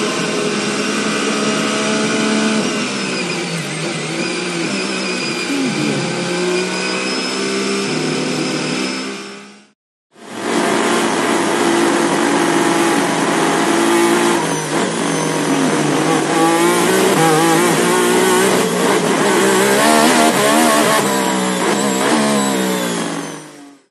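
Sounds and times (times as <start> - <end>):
racing car engine accelerating: 0.0 - 23.8.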